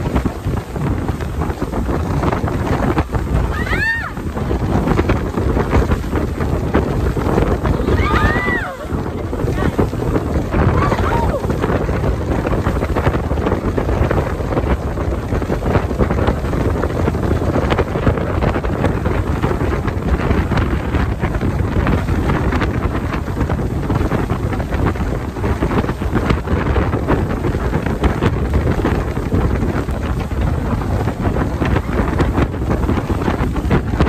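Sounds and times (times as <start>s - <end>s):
boat engine running: 0.0s - 34.0s
water rushing past: 0.0s - 34.0s
wind buffeting microphone: 0.0s - 34.0s.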